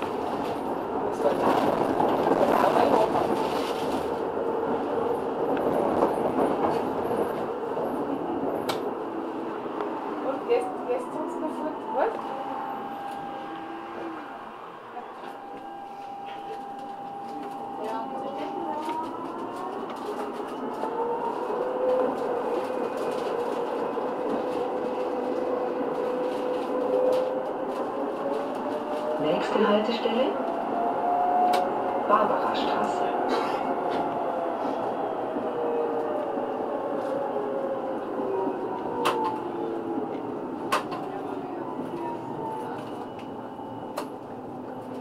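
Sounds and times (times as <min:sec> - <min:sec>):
tram wheels rumbling on rail: 0:00.0 - 0:45.0.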